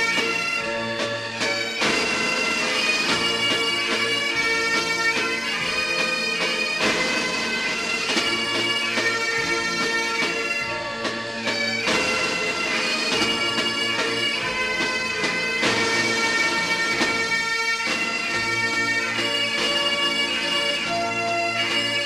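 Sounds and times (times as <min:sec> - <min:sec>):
bagpipe music: 0:00.0 - 0:22.0.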